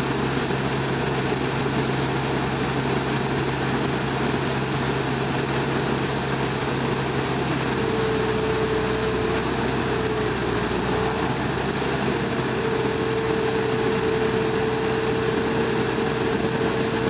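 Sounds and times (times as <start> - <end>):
diesel engine running: 0.0 - 17.0
faint steady whine: 0.0 - 17.0.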